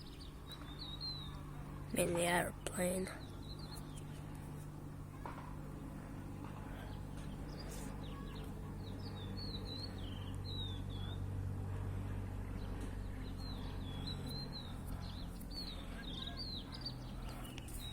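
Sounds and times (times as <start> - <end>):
small birds chirping: 0.0 - 11.4, 12.2 - 17.9
steady low hum: 0.0 - 17.9.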